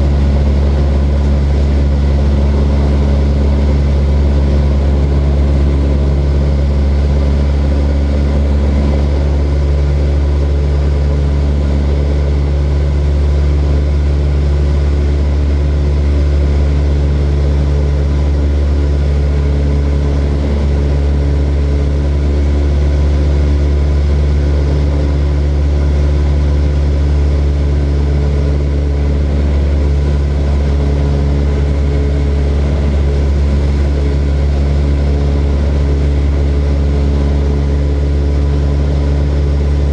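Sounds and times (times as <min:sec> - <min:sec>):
propeller airplane engine drone: 0:00.0 - 0:39.9.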